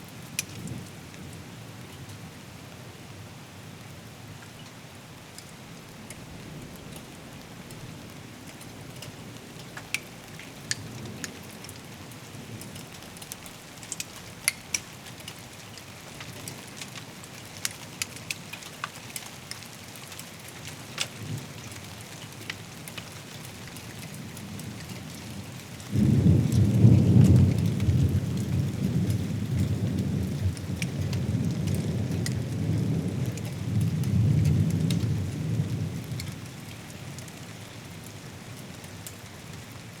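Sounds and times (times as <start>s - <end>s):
steady rain hiss: 0.0s - 40.0s
sharp raindrop ticks: 0.3s - 1.4s, 4.4s - 39.8s.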